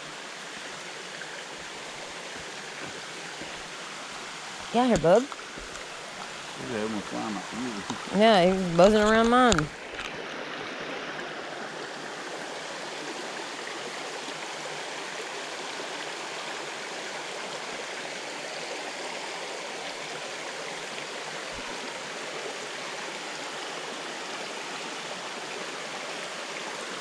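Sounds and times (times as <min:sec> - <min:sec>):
creek water flowing: 0:00.0 - 0:27.0.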